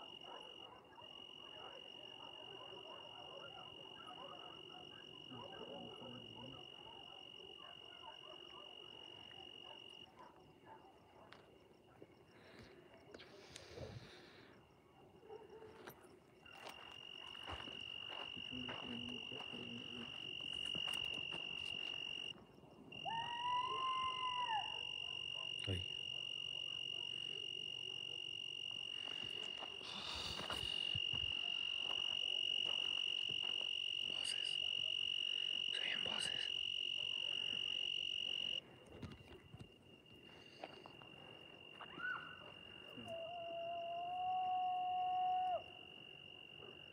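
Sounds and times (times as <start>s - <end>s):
cricket trilling: 0.0s - 46.9s.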